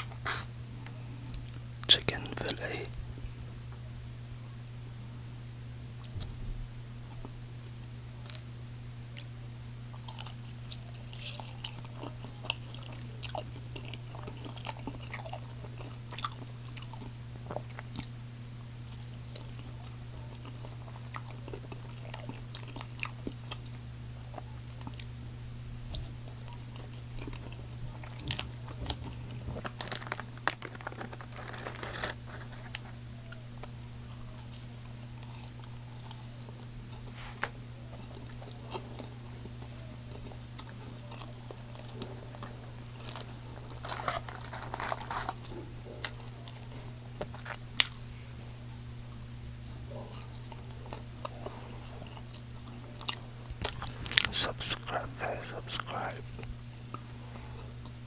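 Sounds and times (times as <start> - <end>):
person chewing crunchy food: 0.0 - 0.6, 9.9 - 25.2, 25.8 - 37.2, 37.9 - 58.0
steady low hum: 0.0 - 58.0.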